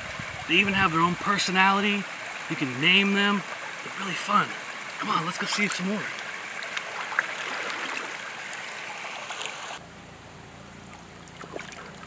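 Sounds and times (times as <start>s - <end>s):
small water splashes: 0.0s - 9.8s, 10.8s - 12.0s
water trickling and sloshing: 0.0s - 9.8s, 10.8s - 12.0s.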